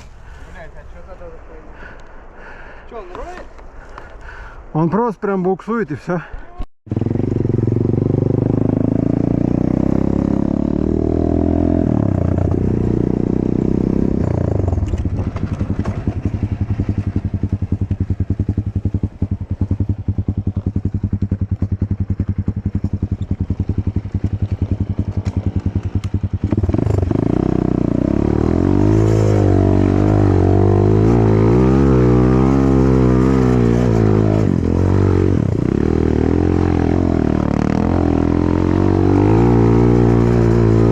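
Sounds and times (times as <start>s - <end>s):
motorcycle engine revving: 6.9s - 40.9s.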